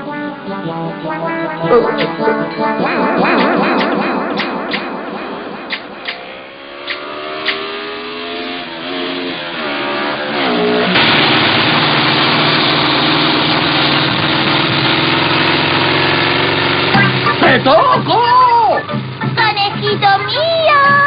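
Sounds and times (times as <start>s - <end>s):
cartoon motorcycle engine revving: 1.0s - 21.0s.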